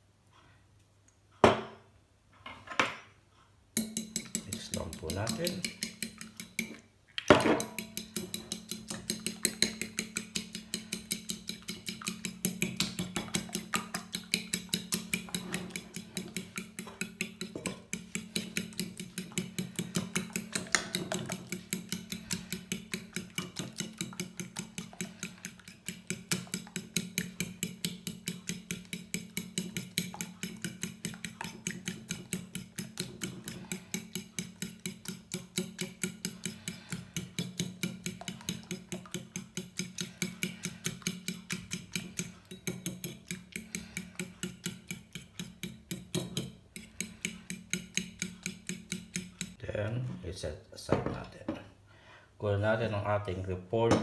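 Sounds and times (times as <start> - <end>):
fork beating eggs in a bowl: 3.7 - 6.9, 7.5 - 49.6.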